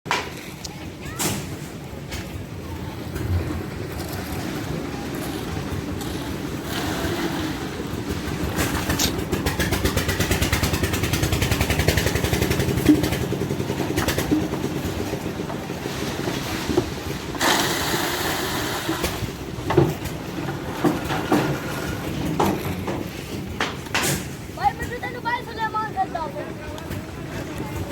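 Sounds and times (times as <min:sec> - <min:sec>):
concrete mixer engine running: 0:01.7 - 0:27.9.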